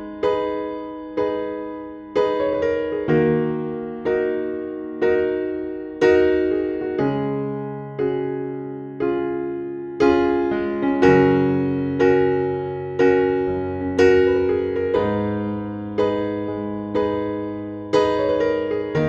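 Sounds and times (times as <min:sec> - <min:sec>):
electric piano chords: 0:00.0 - 0:19.0.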